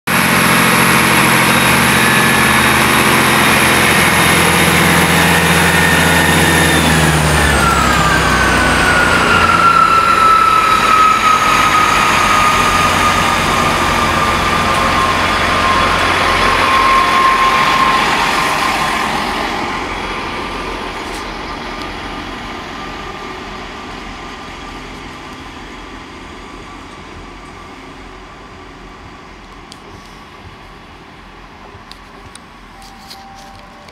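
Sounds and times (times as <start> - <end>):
diesel train engines passing: 0.1 - 33.9
high whine: 0.1 - 33.9.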